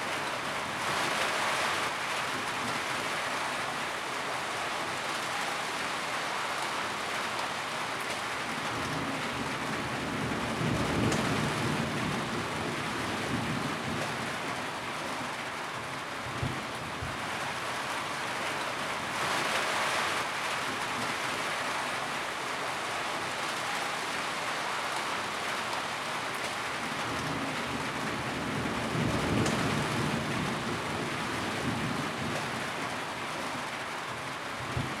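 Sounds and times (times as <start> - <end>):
rain drumming on a tin roof: 0.0 - 35.0.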